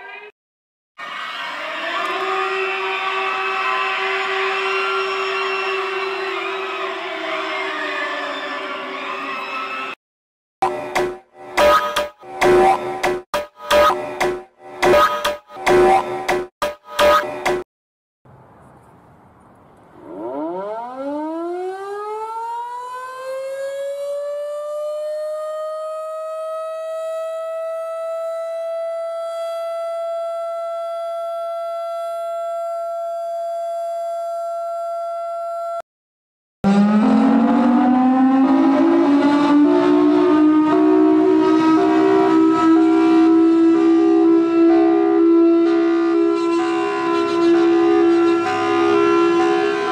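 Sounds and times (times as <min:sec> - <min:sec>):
warning siren winding up: 0:01.0 - 0:10.0, 0:10.6 - 0:17.6, 0:20.0 - 0:35.8, 0:36.6 - 0:49.9
emergency alert alarm tone: 0:01.5 - 0:10.0, 0:10.6 - 0:17.6, 0:20.0 - 0:35.8, 0:36.6 - 0:49.9.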